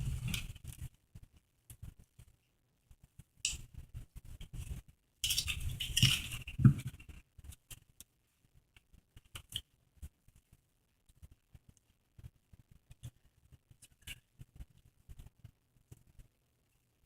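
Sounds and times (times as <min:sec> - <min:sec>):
small clicks and scrapes: 0:00.0 - 0:17.0.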